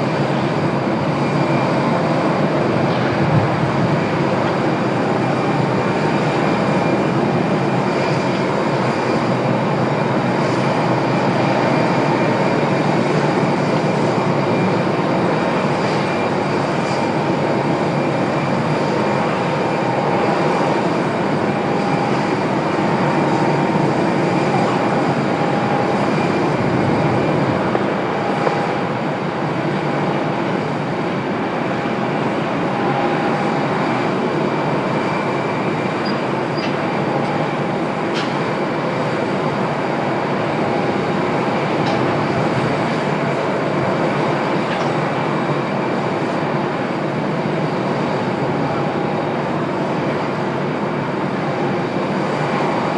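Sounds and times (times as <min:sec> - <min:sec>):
jet engines rushing with whine: 0:00.0 - 0:52.9.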